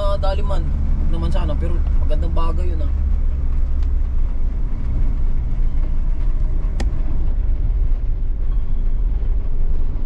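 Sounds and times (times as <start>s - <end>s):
heavy vehicle rumble: 0.0s - 10.0s.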